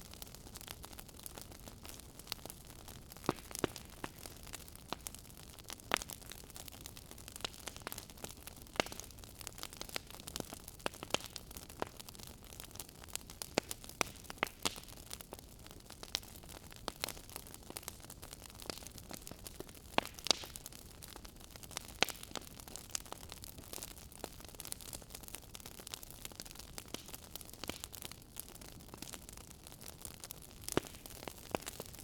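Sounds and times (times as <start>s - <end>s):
fire crackling: 0.0s - 32.0s.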